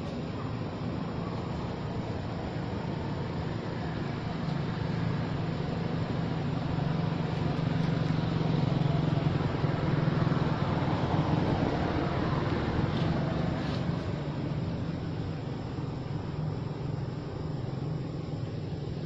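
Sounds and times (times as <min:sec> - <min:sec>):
broad noisy hiss: 0:00.0 - 0:19.0.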